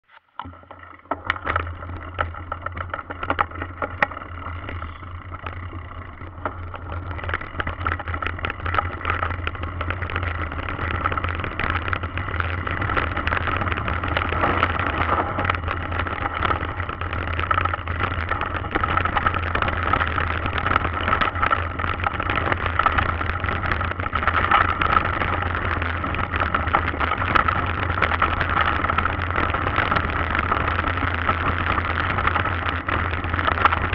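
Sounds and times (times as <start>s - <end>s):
bike rattling over bumps: 0.1s - 33.9s
bike tyres crunching on gravel: 1.1s - 33.9s
wind rush on microphone: 4.6s - 33.9s.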